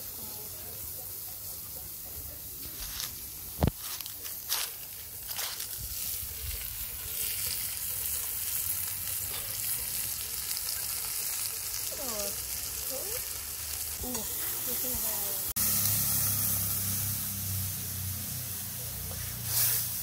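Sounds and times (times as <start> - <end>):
vegetables sizzling in a pot: 0.0 - 20.0.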